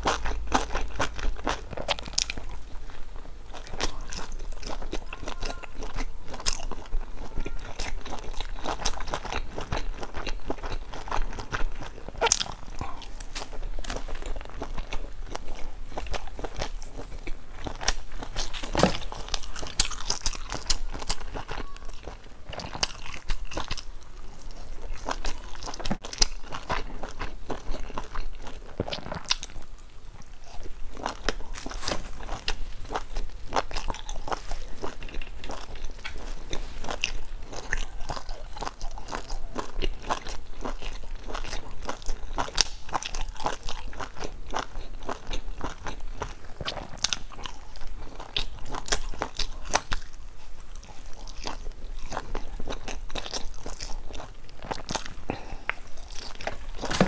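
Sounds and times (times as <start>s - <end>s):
biting and chewing food: 0.0s - 57.0s.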